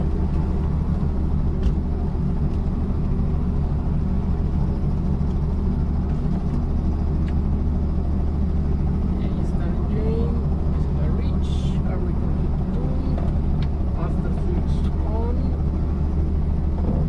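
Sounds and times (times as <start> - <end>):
aircraft piston engine drone: 0.0 - 17.0.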